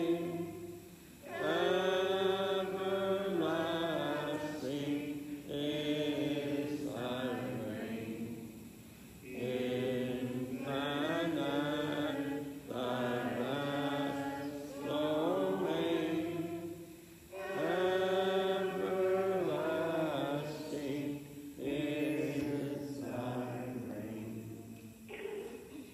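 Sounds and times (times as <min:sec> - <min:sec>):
slow sung chant: 0:00.0 - 0:25.9.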